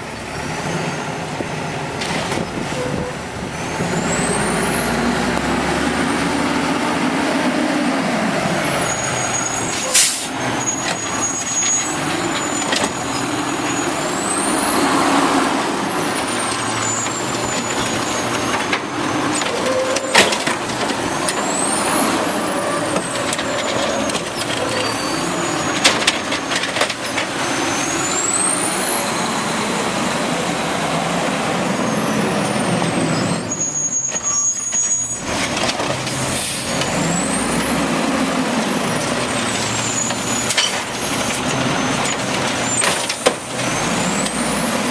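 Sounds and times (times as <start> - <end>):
garbage truck running: 0.0 - 44.9.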